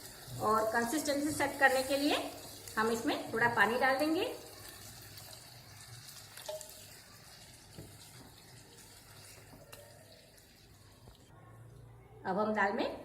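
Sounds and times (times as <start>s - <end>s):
water pouring into pan: 0.0s - 11.3s.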